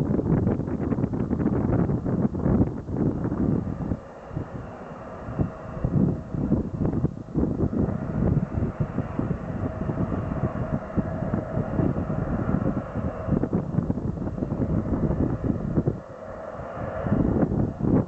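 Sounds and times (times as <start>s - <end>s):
airliner engines running: 0.0s - 18.0s
wind buffeting microphone: 0.0s - 18.0s.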